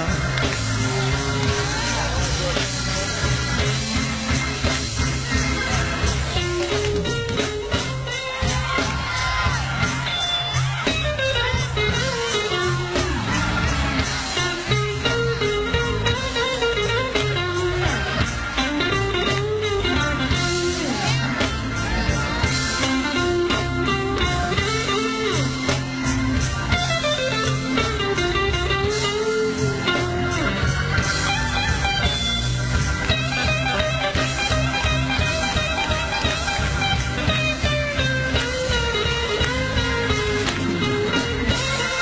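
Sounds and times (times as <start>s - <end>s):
live band instrumental: 0.0s - 42.0s
melodic lead line bending: 0.0s - 42.0s.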